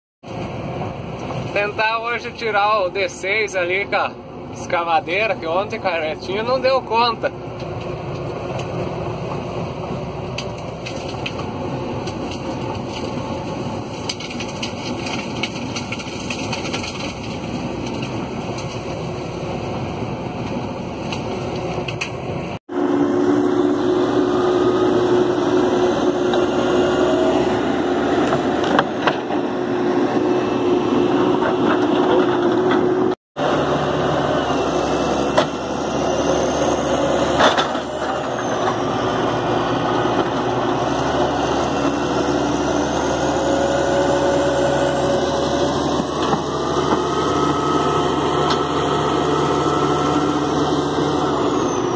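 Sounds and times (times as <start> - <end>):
bulldozer diesel engine: 0.2 - 51.9
excavator engine with hydraulic whines: 0.3 - 51.9.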